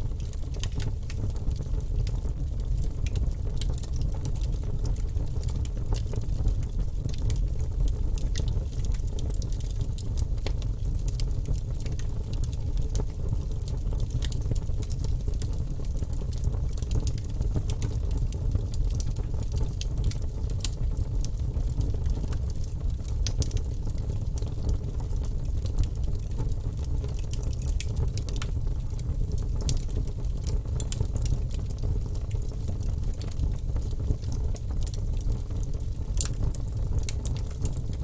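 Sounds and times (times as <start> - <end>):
fire crackling in fireplace: 0.0 - 38.0.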